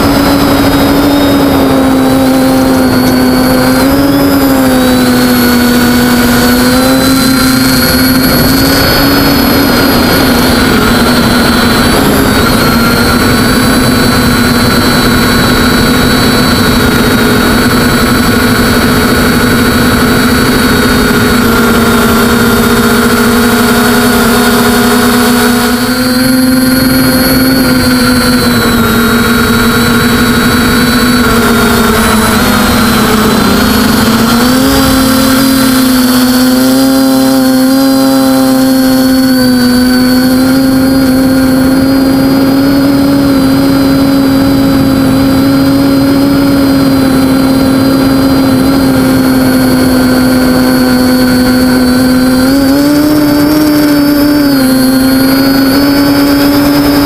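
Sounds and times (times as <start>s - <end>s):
quadcopter propellers whining: 0.0s - 57.0s.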